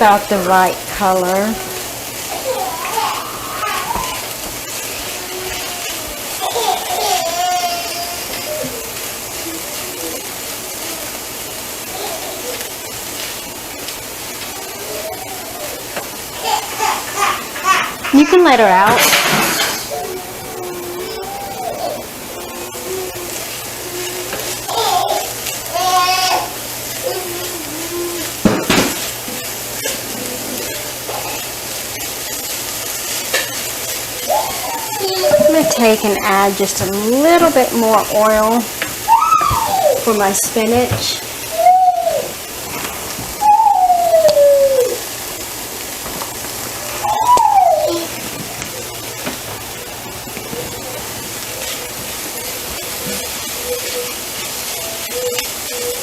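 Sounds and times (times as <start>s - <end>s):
onions sizzling in a frying pan: 0.0s - 56.0s.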